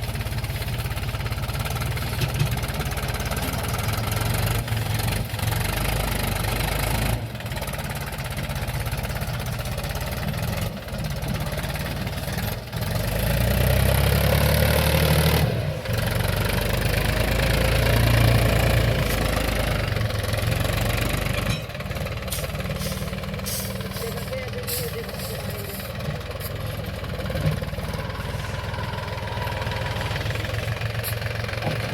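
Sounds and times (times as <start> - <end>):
tractor diesel engine rumbling: 0.0 - 31.9.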